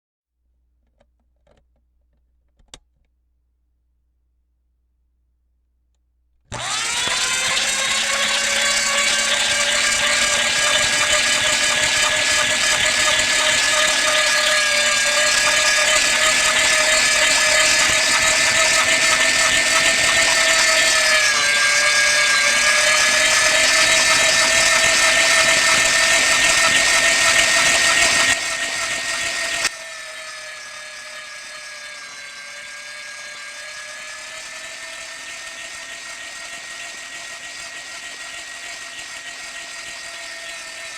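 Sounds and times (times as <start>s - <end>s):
electric meat grinder whining: 6.5s - 40.9s.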